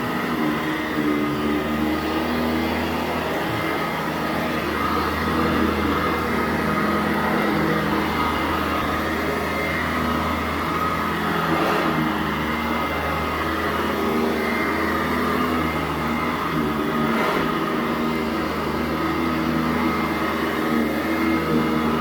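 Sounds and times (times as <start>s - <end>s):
upright vacuum cleaner running: 0.0s - 22.0s.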